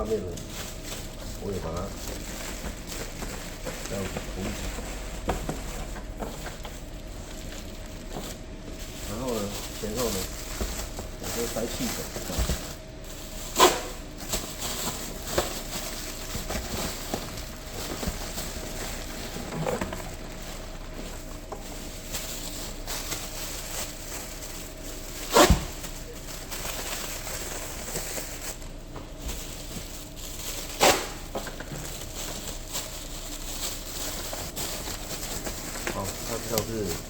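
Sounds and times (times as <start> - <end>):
plastic packing rustling: 0.0 - 37.0.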